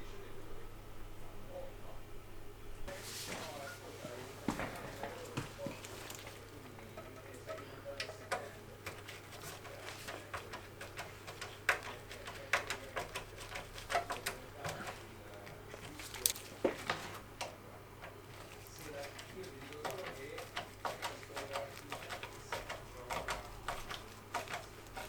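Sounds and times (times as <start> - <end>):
computer parts clicking and rattling: 4.6 - 25.0.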